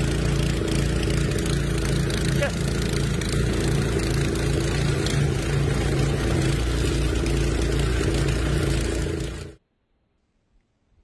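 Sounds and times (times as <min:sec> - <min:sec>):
snowblower engine running: 0:00.0 - 0:09.6.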